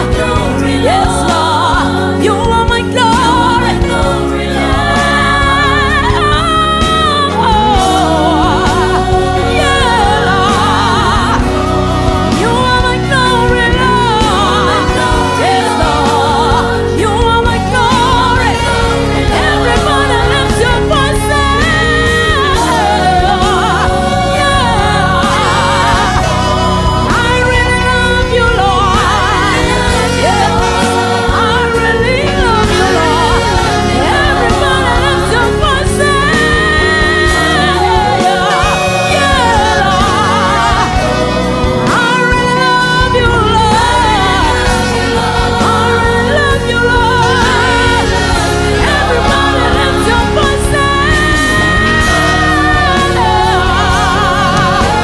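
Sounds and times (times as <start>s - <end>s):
singing with vibrato: 0.0s - 55.0s
sustained keyboard accompaniment: 0.0s - 55.0s.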